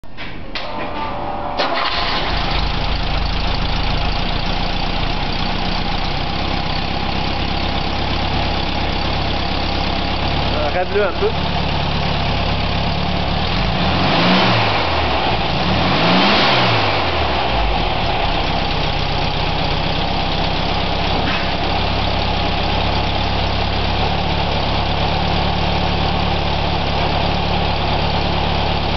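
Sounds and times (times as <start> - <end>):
car engine idling and revving: 1.6 - 28.9.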